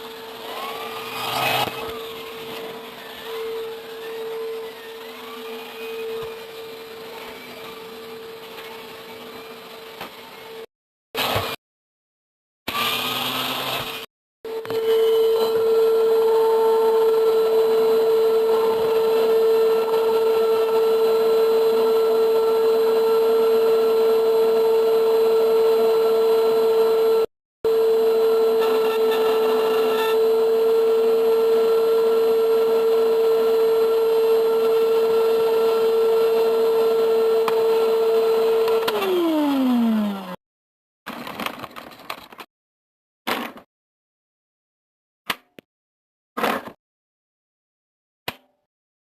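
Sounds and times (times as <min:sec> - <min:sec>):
vacuum cleaner motor whining: 0:00.0 - 0:11.6, 0:12.7 - 0:40.4.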